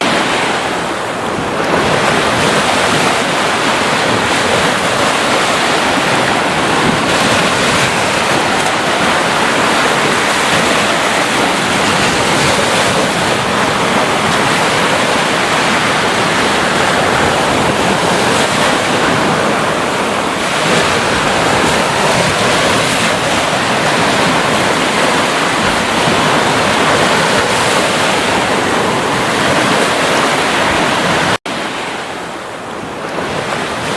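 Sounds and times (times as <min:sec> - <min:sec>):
sea waves surf rushing: 0:00.0 - 0:33.9.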